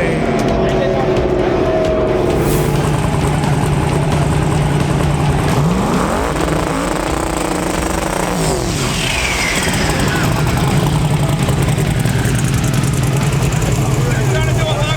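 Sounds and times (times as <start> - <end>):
race car engine revving: 0.0 - 14.9.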